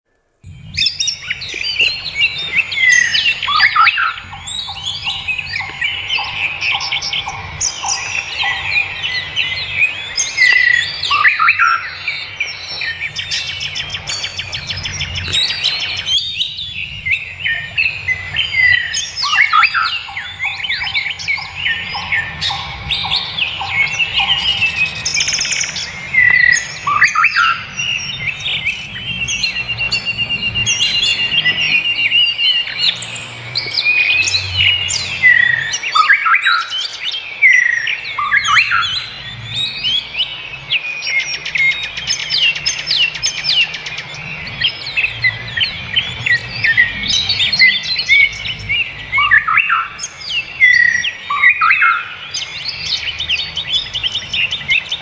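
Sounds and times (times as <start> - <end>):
wild birds chirping and singing: 0.4 - 55.0.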